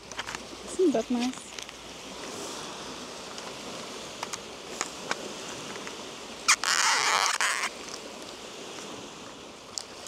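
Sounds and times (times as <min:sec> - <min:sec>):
nearby water: 0:00.0 - 0:10.0.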